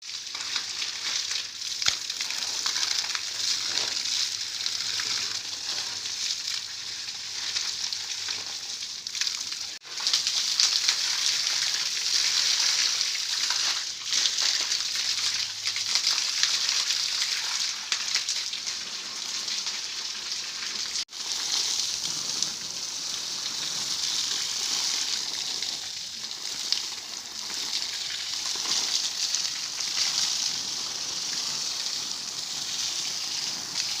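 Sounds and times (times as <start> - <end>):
water spraying onto concrete: 0.0 - 34.0.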